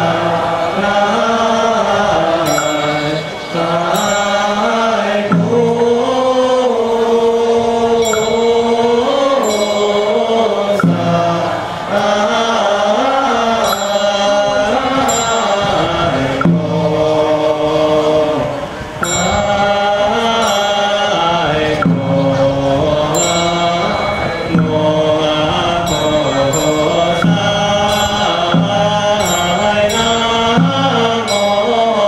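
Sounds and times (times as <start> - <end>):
monks chanting through a microphone: 0.0 - 32.0.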